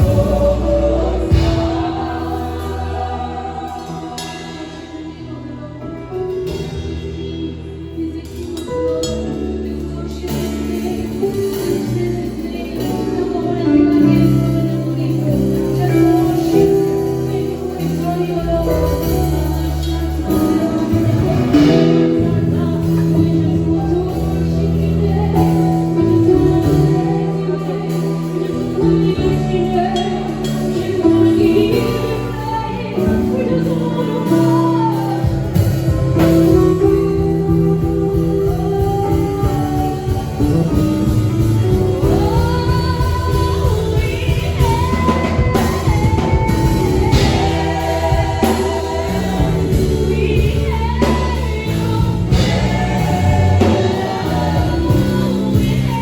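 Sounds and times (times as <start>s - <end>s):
gospel singing: 0.0s - 56.0s
instrumental backing: 0.0s - 56.0s.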